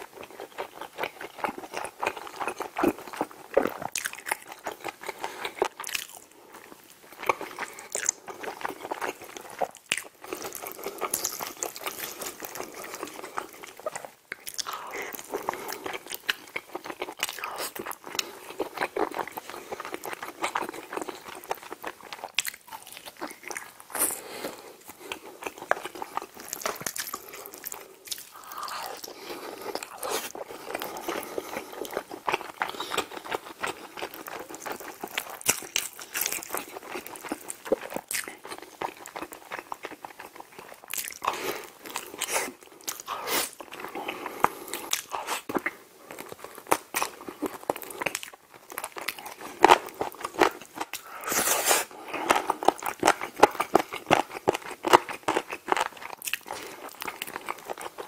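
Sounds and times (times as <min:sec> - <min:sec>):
person biting and chewing: 0:07.2 - 0:24.2, 0:24.8 - 0:58.0.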